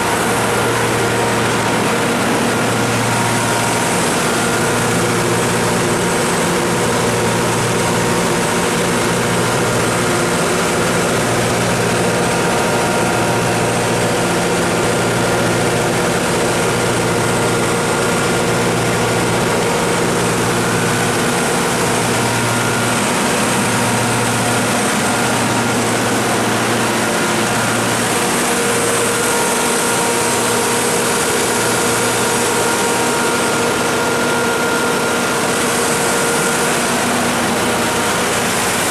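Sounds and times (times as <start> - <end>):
diesel generator humming: 0.0 - 38.9.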